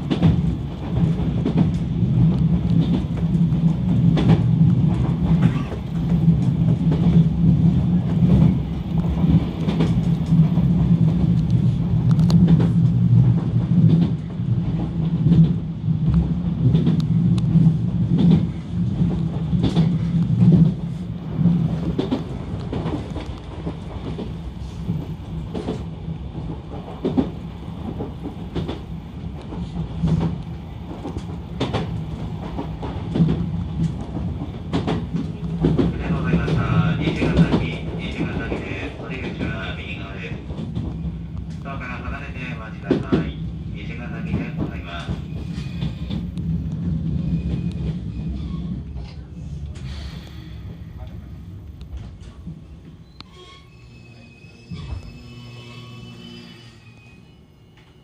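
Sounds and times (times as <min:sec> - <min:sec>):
train running hum: 0:00.0 - 0:58.0.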